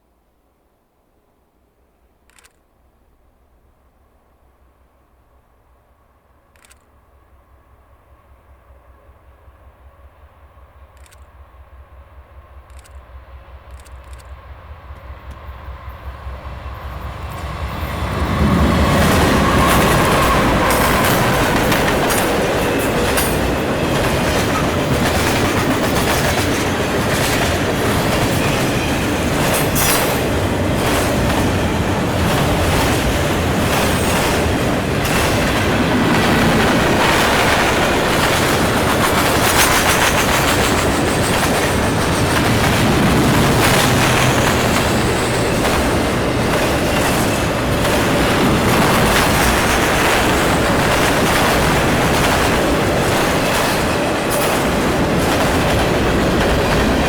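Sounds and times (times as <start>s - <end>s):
train rumble: 3.9s - 57.0s
freight train wheels clacking: 10.8s - 57.0s.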